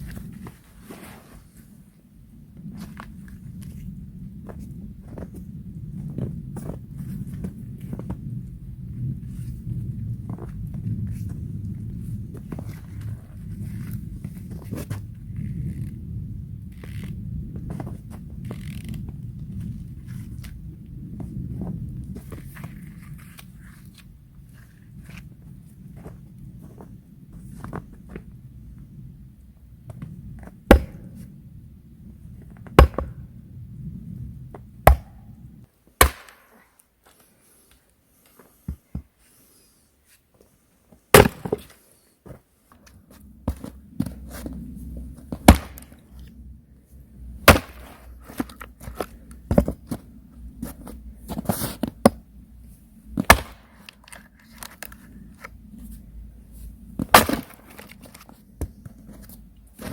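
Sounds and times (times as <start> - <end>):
low steady rumble: 1.4 - 35.7, 43.0 - 59.9.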